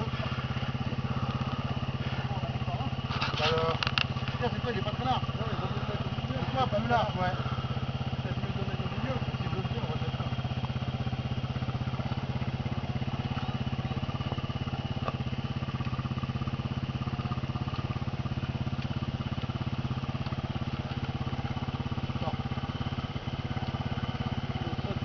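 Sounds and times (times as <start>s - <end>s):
quad bike engine idling: 0.0s - 25.0s.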